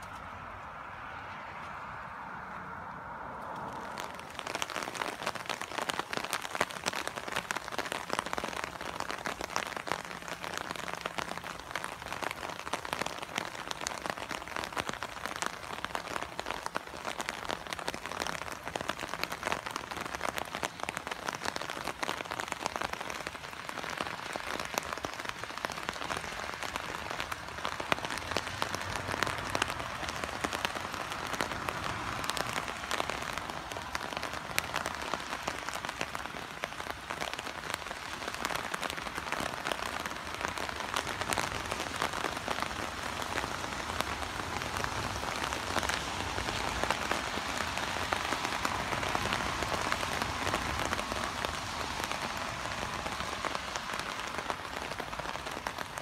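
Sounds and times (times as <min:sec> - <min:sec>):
rain on umbrella: 0:03.2 - 0:56.0.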